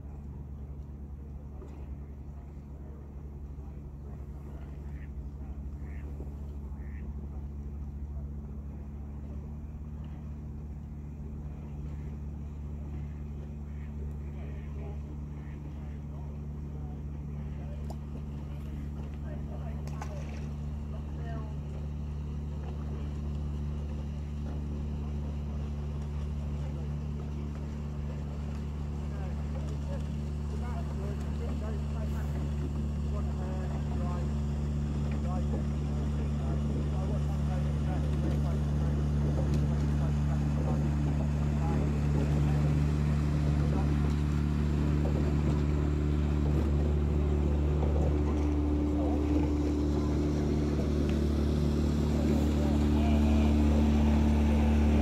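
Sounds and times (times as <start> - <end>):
low mechanical drone: 0.0 - 55.0.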